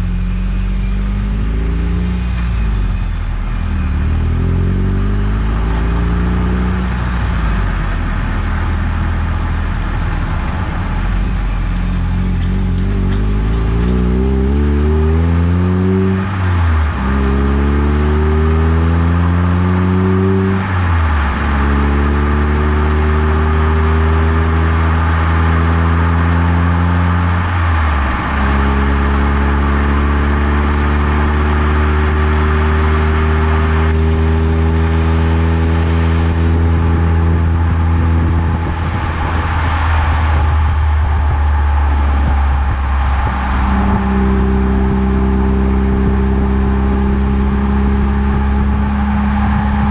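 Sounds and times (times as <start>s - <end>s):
car engine accelerating: 0.0s - 49.9s
road and wind noise: 0.0s - 49.9s.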